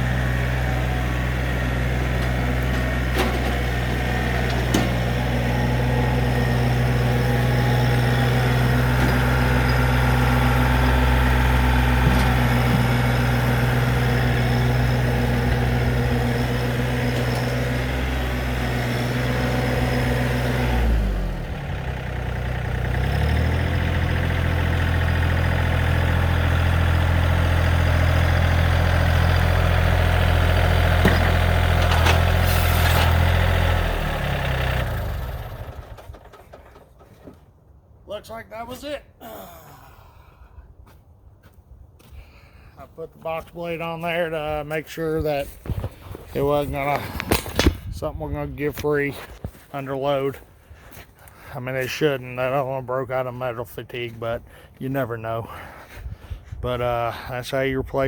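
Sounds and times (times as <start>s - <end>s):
tractor diesel engine running: 0.0s - 38.0s, 43.2s - 58.0s.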